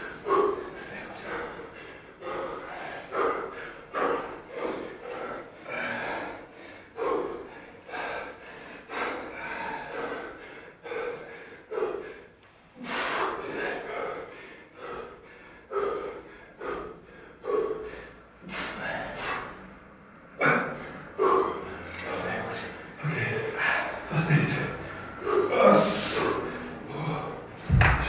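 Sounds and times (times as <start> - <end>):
man breathing heavily: 0.0 - 28.0.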